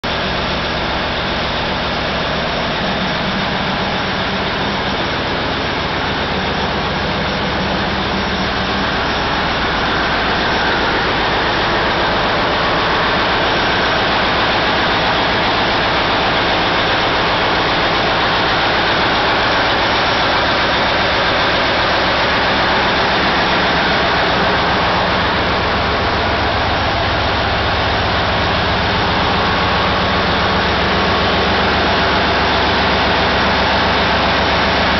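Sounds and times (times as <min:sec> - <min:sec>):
diesel engines droning: 0:00.0 - 0:34.9
steady low hum: 0:00.0 - 0:34.9.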